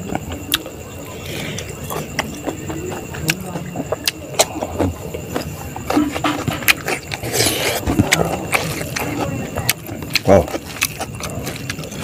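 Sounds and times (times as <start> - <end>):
person chewing and lip-smacking: 0.0 - 12.0.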